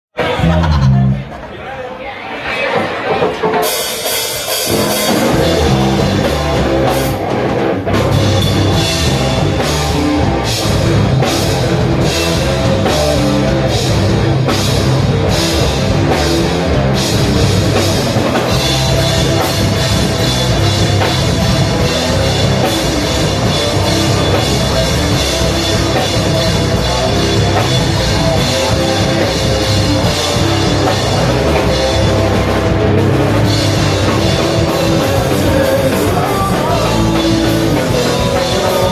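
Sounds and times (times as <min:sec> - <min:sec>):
loud rock music: 0:00.1 - 0:01.5, 0:02.4 - 0:38.9.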